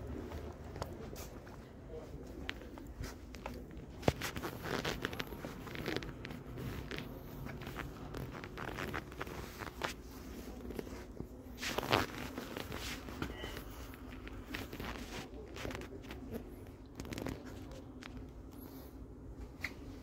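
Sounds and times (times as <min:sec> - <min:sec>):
rustling handling noise: 0:00.0 - 0:20.0
light clicks and scuffs: 0:00.1 - 0:20.0.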